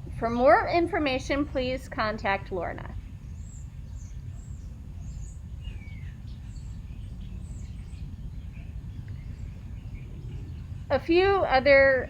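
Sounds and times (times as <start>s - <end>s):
steady low rumble: 0.0s - 12.0s
small birds chirping: 2.0s - 12.0s.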